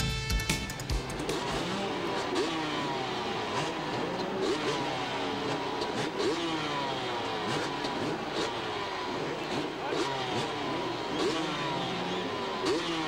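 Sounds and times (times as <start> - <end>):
motocross bikes revving: 0.9 - 13.0.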